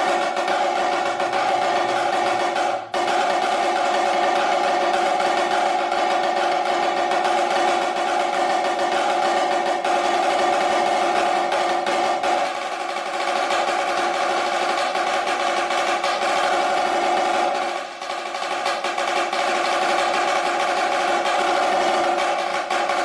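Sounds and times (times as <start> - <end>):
snare drum roll: 0.0 - 23.0.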